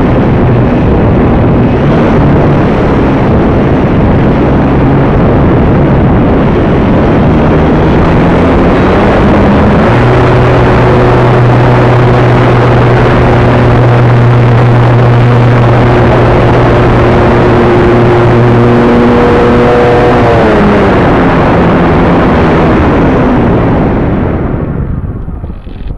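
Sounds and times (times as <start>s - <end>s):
electric motor whine: 0.0s - 23.9s
wind rush on microphone: 0.0s - 25.9s.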